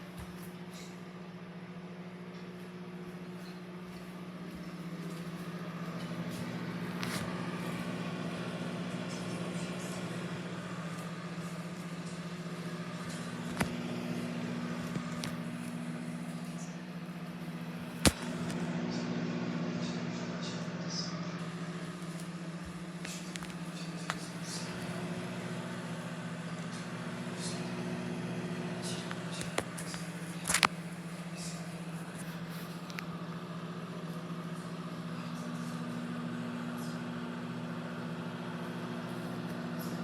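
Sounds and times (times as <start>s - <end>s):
microwave oven humming: 0.0s - 40.0s.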